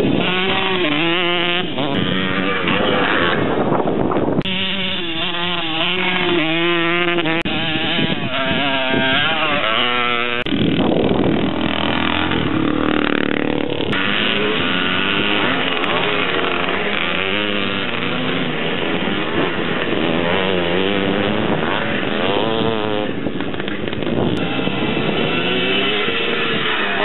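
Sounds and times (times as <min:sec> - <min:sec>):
motocross motorcycles revving: 0:00.0 - 0:27.0.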